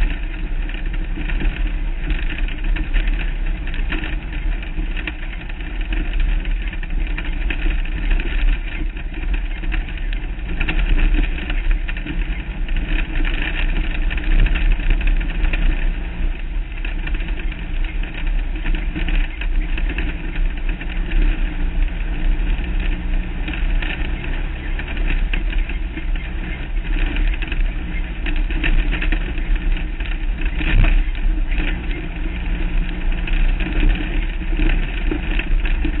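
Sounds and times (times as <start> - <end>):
road and wind rumble: 0.0 - 36.0.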